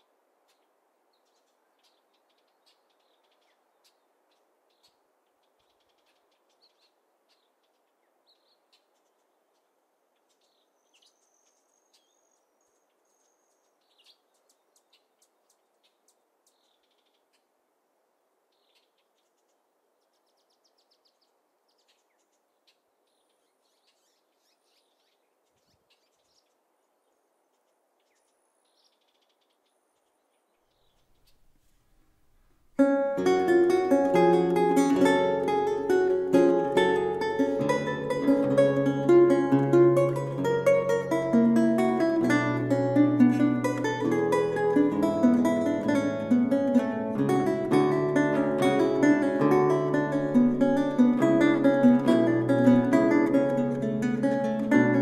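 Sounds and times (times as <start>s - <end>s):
birds chirping: 0.0s - 17.6s, 18.5s - 55.0s
soft steady hiss: 0.0s - 55.0s.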